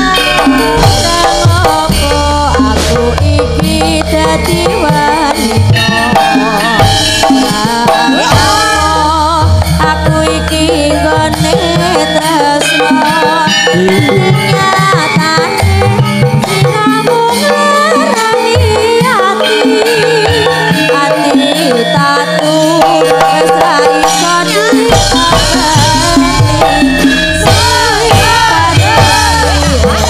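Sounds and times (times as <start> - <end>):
gamelan music: 0.0 - 30.0
hand drum beating rhythm: 0.0 - 30.0
woman singing: 0.0 - 30.0.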